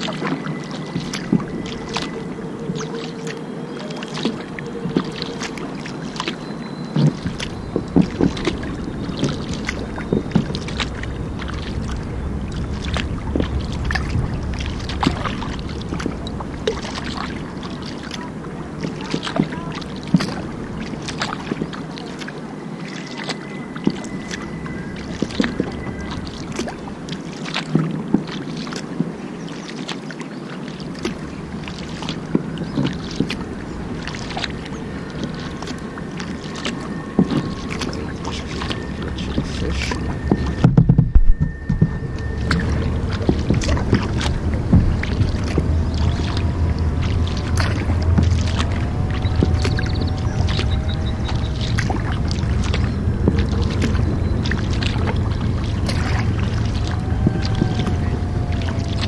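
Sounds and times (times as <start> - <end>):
low rumble: 0.0 - 29.2, 30.8 - 59.0
kayak paddle splashing: 0.0 - 59.0
water slapping against hull: 0.0 - 59.0
water washing: 0.0 - 59.0.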